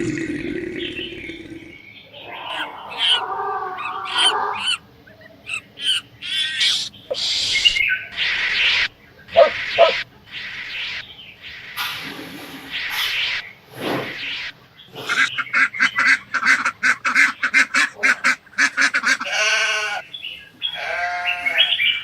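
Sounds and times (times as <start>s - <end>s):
birds chirping and calling: 0.7s - 22.0s.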